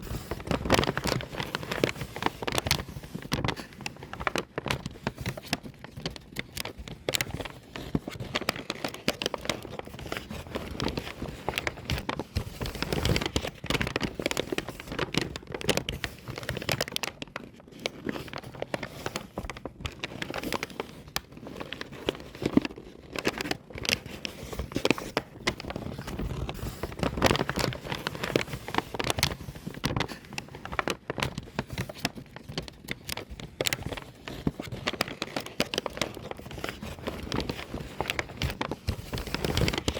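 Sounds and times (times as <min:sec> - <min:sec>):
paper bag crumpling: 0:00.0 - 0:39.9.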